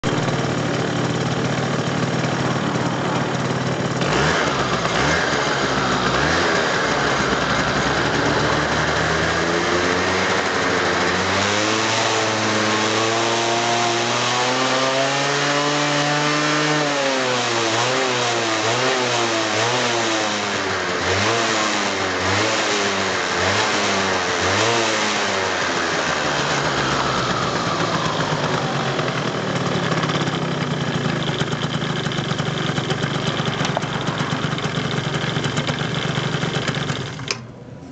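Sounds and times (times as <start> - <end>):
scooter engine revving: 0.0 - 37.9.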